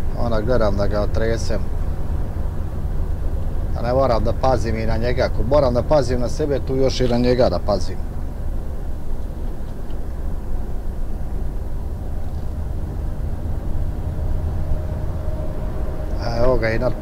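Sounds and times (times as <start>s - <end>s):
truck engine and tyres droning: 0.0s - 17.0s.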